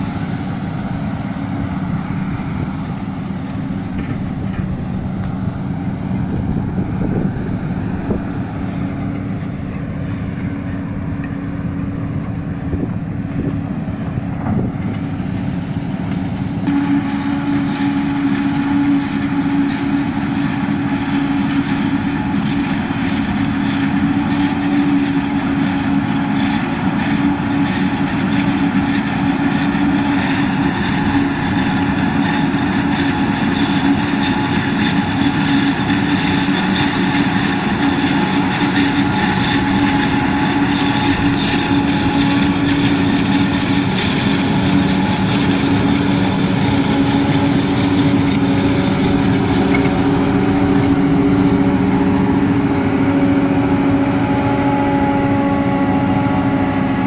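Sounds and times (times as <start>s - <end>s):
forage harvester running: 0.0s - 57.0s
tractor running: 0.0s - 57.0s.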